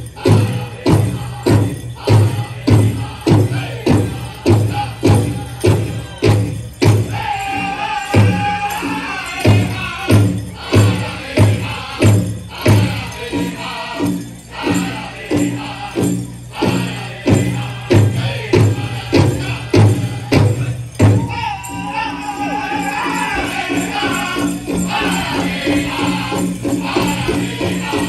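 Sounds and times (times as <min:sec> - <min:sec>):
big drum steady beat: 0:00.0 - 0:21.6, 0:22.6 - 0:28.0
high-pitched group singing: 0:00.0 - 0:28.0.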